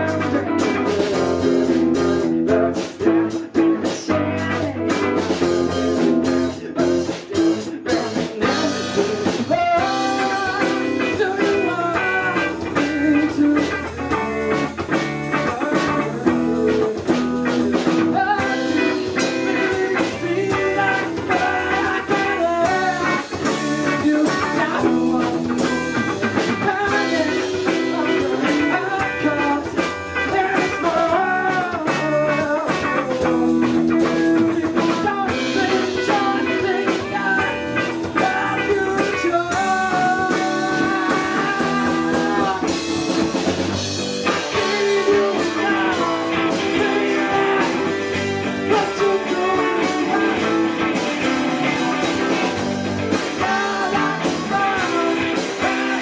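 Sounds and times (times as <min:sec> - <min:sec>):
electric guitar melody: 0:00.0 - 0:56.0
live rock band playing: 0:00.0 - 0:56.0.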